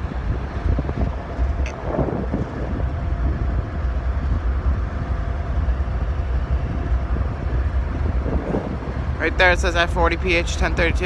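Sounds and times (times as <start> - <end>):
diesel locomotives idling: 0.0 - 11.0.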